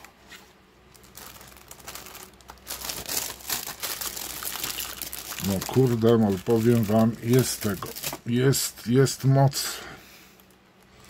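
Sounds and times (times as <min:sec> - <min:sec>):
plastic bags and paper rustling: 0:00.0 - 0:09.0.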